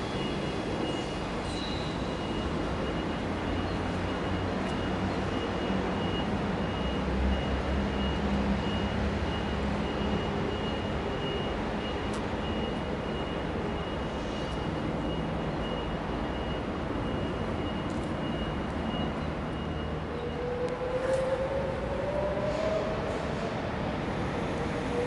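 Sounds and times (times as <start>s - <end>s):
passenger train rumbling: 0.0s - 25.0s.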